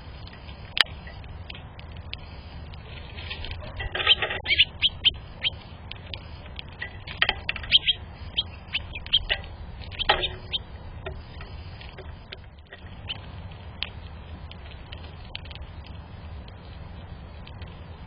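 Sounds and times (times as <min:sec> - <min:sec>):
small birds chipping: 0:00.0 - 0:18.0.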